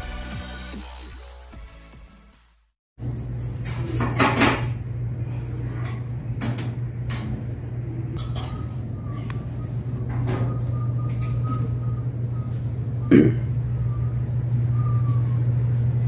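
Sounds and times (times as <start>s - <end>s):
steady low hum: 3.0s - 16.0s.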